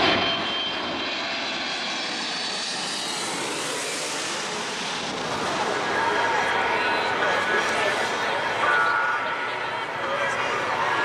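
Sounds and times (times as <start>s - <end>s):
jet airliner passing overhead: 0.0s - 11.0s.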